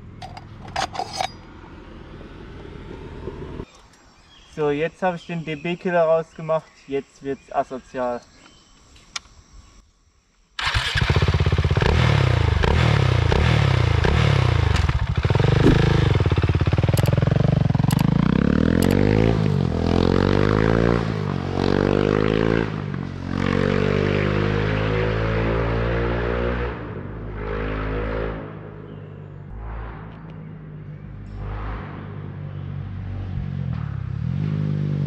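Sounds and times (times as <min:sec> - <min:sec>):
motorcycle engine revving: 0:00.0 - 0:03.7, 0:10.6 - 0:35.0.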